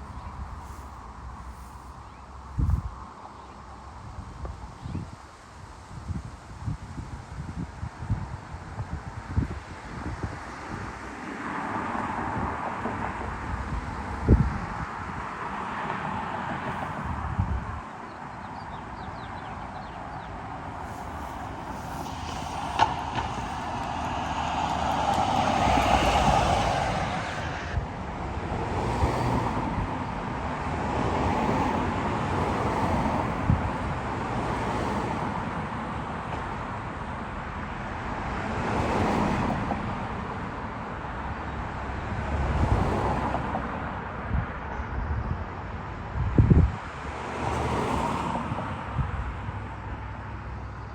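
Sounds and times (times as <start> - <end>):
vehicles passing: 0.0 - 5.1, 7.4 - 50.9.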